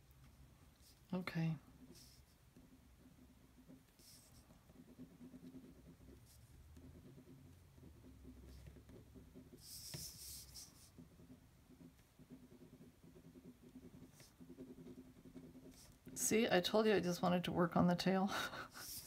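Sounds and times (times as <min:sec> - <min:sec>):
pen scratching on paper: 0:00.2 - 0:17.1, 0:18.7 - 0:19.0.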